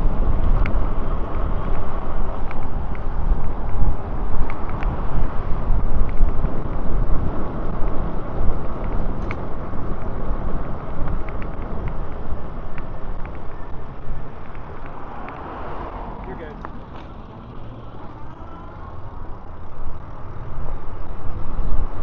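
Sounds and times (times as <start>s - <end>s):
road traffic: 0.0s - 22.0s
wind rumbling on microphone: 0.0s - 22.0s.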